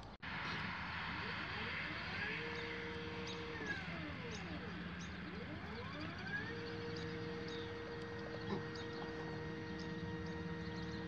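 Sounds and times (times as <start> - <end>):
motor and gearbox whine: 0.0 - 11.0.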